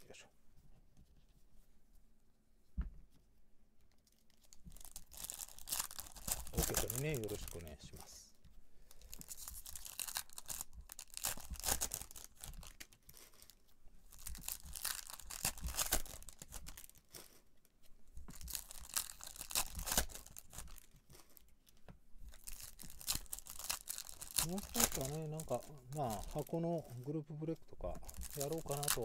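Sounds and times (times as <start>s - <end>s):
card packaging crinkling and tearing: 4.0s - 8.1s, 8.9s - 17.5s, 18.2s - 29.0s.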